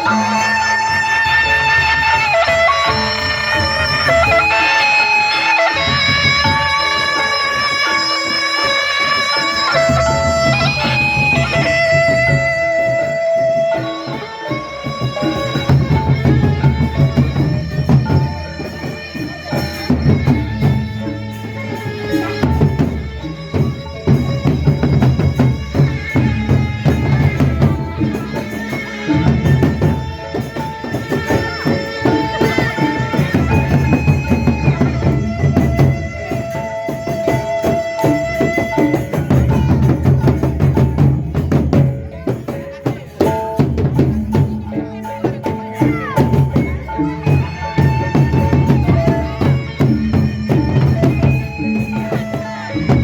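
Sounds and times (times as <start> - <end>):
fast drumming and percussion: 0.0 - 53.0.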